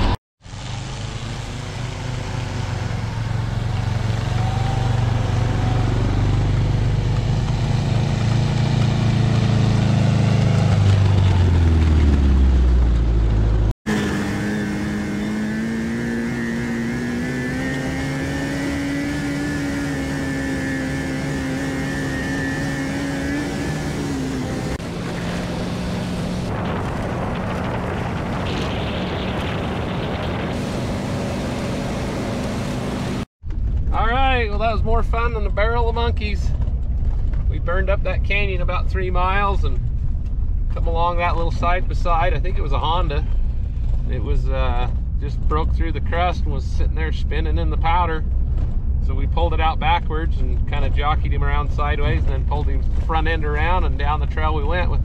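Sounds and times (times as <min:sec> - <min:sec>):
engine hum: 0:00.0 - 0:55.0
vehicle engine drone: 0:00.0 - 0:55.0.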